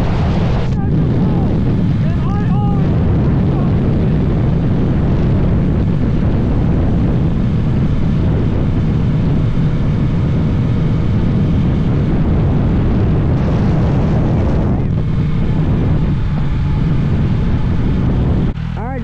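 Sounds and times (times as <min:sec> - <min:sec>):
motorcycle engine running: 0:00.0 - 0:19.0
road noise: 0:00.0 - 0:19.0
wind roar: 0:00.0 - 0:19.0.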